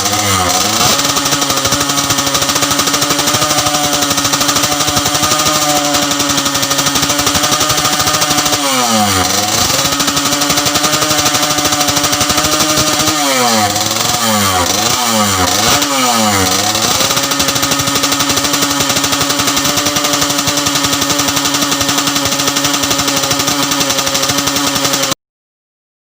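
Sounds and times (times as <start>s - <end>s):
motorcycle engine revving and idling: 0.0s - 25.2s.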